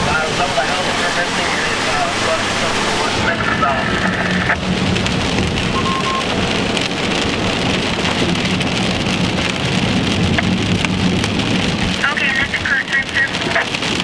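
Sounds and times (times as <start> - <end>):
rain on car roof: 0.0 - 14.0.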